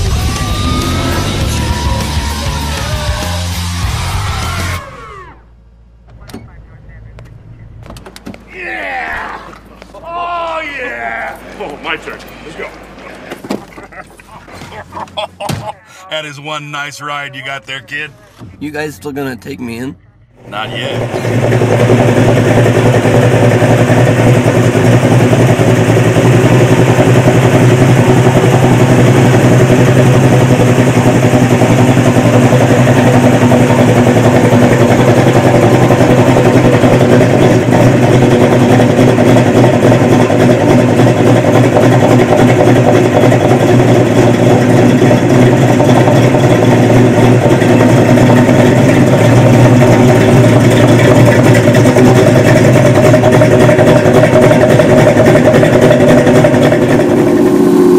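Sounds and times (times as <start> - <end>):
vehicle engine running steadily: 0.0 - 4.1, 10.4 - 57.9.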